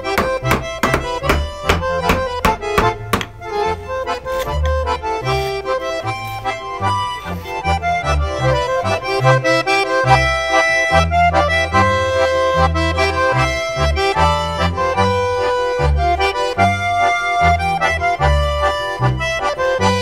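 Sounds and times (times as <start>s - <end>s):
folk tune on accordion: 0.0s - 20.0s.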